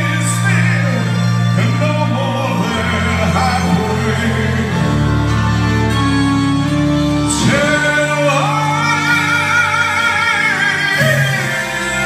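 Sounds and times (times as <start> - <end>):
man singing with vibrato: 0.0 - 6.0, 6.6 - 12.0
backing music: 0.0 - 12.0.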